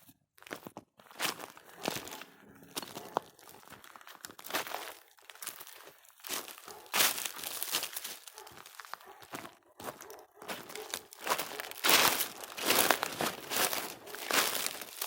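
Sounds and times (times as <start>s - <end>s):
footsteps crunching on a dry trail: 0.4s - 15.0s.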